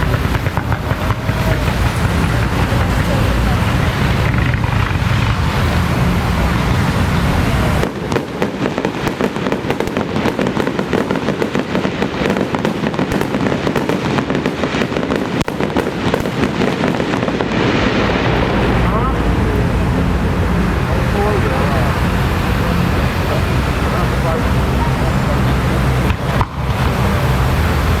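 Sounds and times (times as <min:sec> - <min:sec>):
electronic firecrackers crackling: 0:00.0 - 0:28.0
low rumbling noise: 0:00.0 - 0:28.0.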